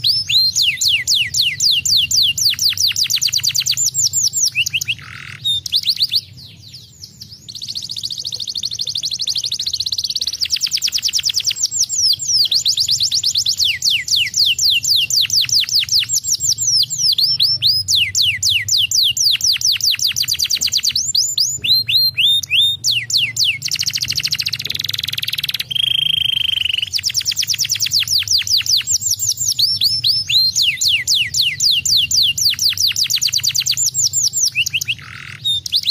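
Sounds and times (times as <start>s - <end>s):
canary singing: 0.0s - 35.9s.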